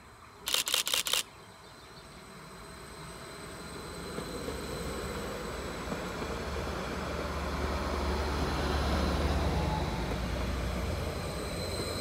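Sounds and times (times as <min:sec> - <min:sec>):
train wheels rumbling on rails: 0:02.3 - 0:12.0.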